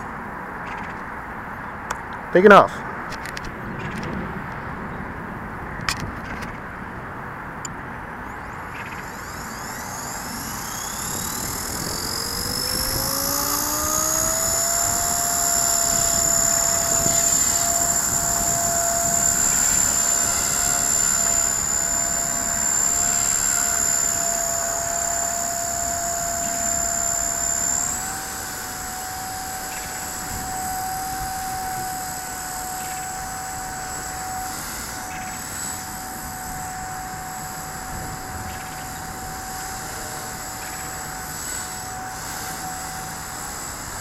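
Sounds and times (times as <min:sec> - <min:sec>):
rc helicopter motor whine: 0:00.0 - 0:05.1, 0:05.8 - 0:44.0.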